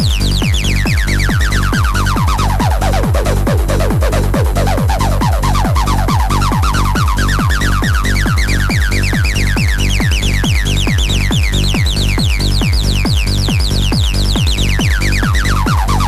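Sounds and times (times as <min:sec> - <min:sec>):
electronic music: 0:00.0 - 0:16.0.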